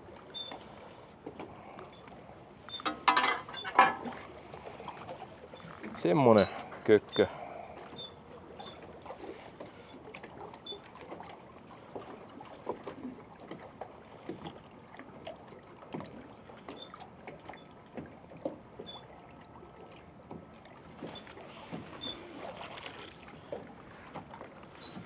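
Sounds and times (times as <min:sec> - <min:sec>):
water lapping and dripping: 0:00.0 - 0:25.0.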